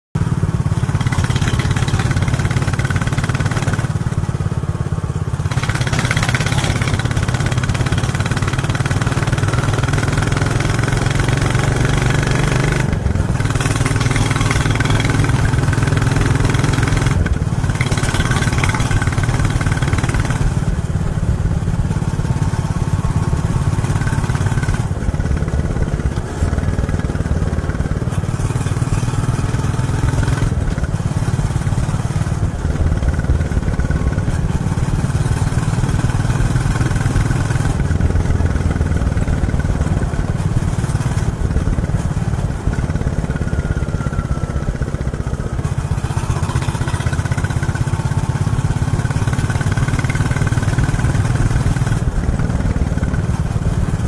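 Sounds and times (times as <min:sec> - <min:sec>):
motorcycle engine thumping: 0:00.3 - 0:54.0.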